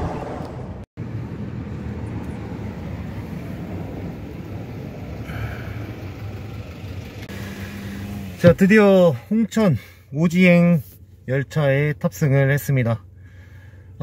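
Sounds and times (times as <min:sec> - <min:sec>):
vehicle rumble from inside: 0:00.0 - 0:14.0.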